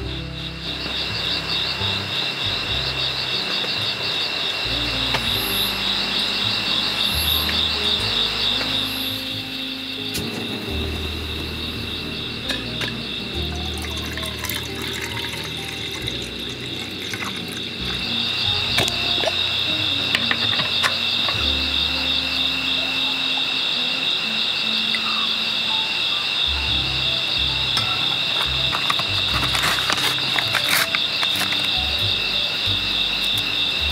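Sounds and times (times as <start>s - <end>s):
night chorus of calling animals: 0.0s - 33.9s.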